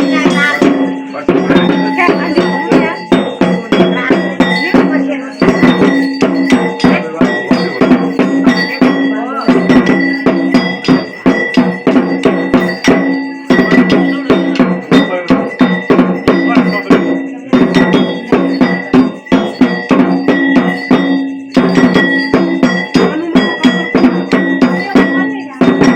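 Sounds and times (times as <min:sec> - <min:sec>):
bells ringing: 0:00.0 - 0:25.9
fast percussion strikes: 0:00.0 - 0:25.9.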